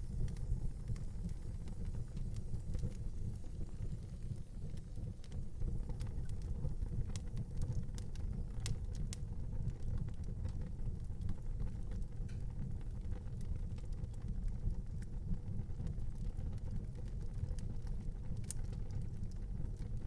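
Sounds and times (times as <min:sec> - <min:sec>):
fire crackling and popping: 0:00.0 - 0:20.0
flames rumbling: 0:00.0 - 0:20.0.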